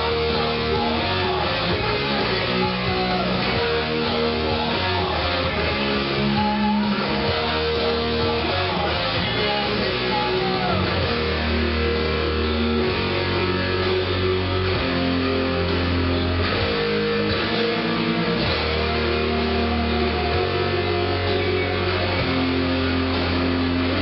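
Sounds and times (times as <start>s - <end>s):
electric guitar metal riff: 0.0s - 24.0s
low bass part: 0.0s - 24.0s.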